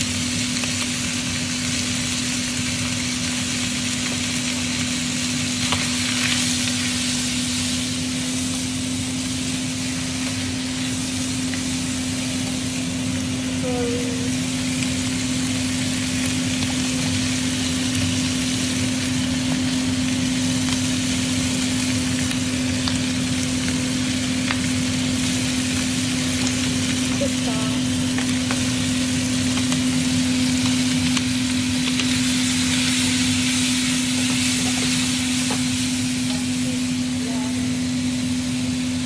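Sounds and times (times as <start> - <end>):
meat sizzling in a wok: 0.0 - 39.0.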